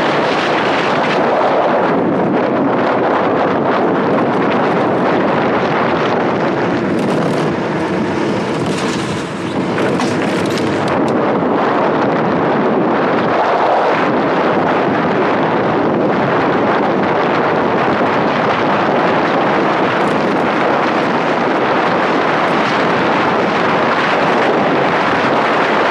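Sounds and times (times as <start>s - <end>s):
tyres rumbling on rough asphalt: 0.0s - 25.9s
wind rushing over microphone: 0.0s - 25.9s.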